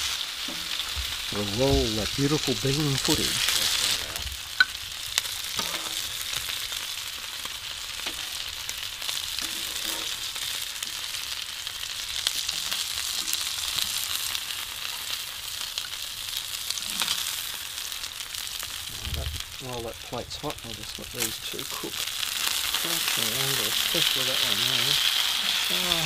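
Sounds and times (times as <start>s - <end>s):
food sizzling on hotplate: 0.0s - 26.0s.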